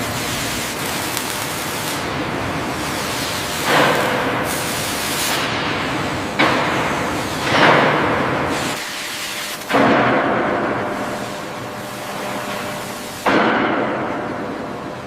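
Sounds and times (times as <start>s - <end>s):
steady factory background noise: 0.0s - 15.0s.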